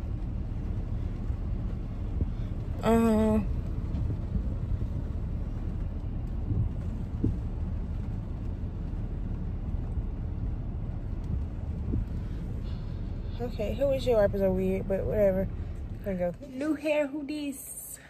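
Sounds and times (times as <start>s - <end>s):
car cabin rumble: 0.0s - 17.6s.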